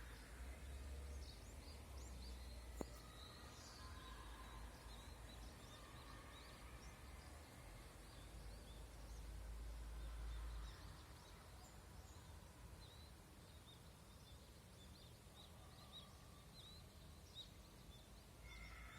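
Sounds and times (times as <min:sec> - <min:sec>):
faint birds chirping: 0:00.0 - 0:18.9.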